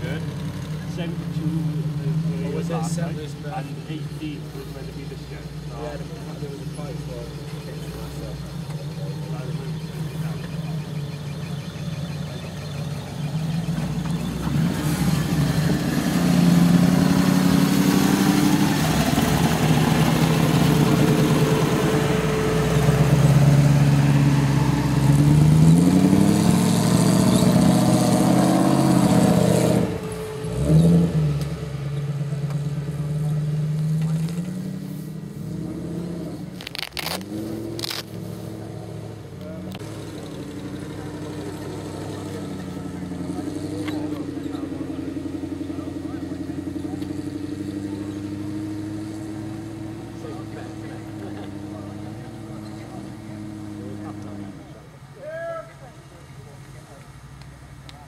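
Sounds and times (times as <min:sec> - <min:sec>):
buggy engine revving: 0:00.0 - 0:55.2.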